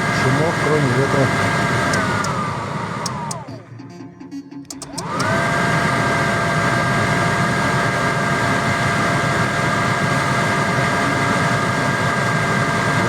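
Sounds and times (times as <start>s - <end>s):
heater blower fan whining: 0.0s - 13.0s.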